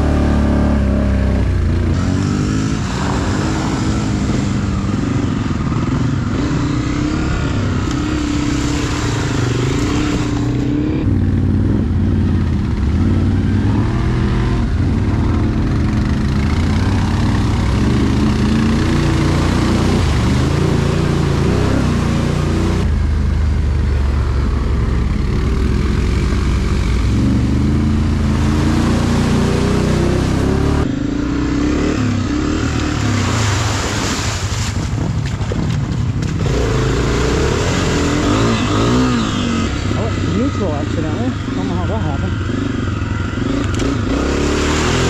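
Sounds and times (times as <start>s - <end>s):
quad engine running: 0.0s - 45.0s.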